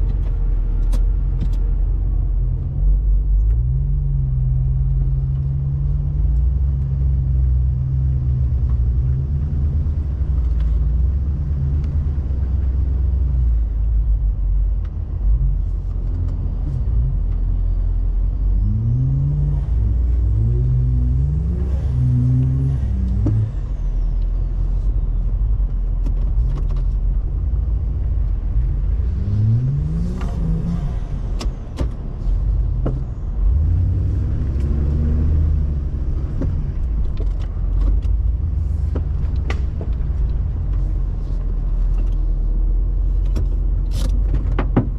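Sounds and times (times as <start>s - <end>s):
engine running at low revs: 0.0s - 44.9s.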